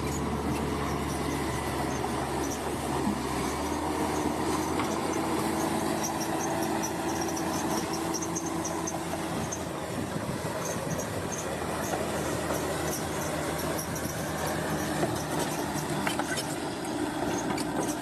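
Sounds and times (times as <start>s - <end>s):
steel tracks squeaking and clinking: 0.0s - 9.8s, 10.5s - 18.0s
bulldozer diesel engine drumming: 0.0s - 18.0s.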